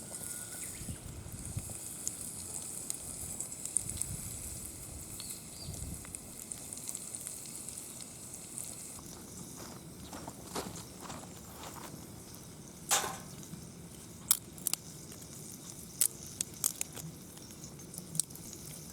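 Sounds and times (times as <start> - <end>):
wood fire crackling and popping: 1.1 - 18.9.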